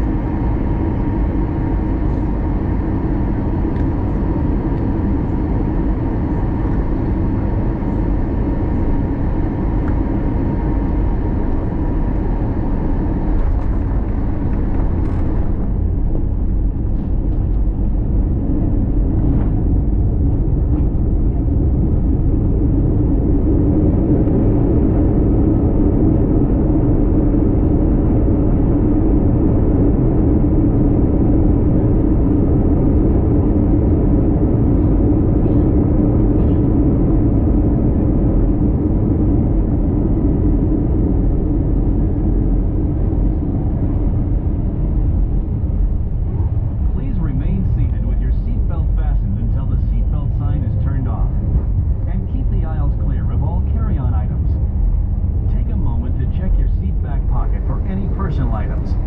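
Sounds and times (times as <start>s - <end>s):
aircraft wheels and engines rumbling: 0.0s - 59.0s.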